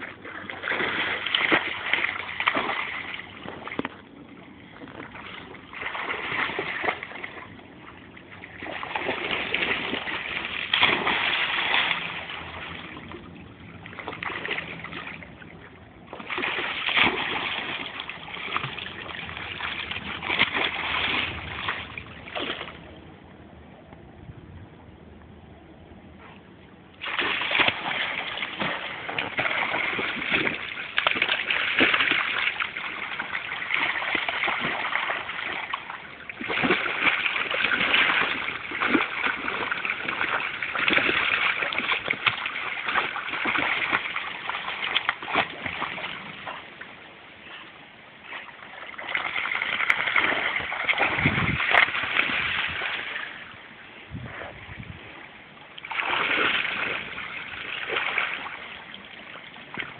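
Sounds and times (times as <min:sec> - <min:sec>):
dog splashing in river water: 0:00.0 - 0:23.0, 0:27.0 - 0:53.6, 0:54.2 - 0:59.9.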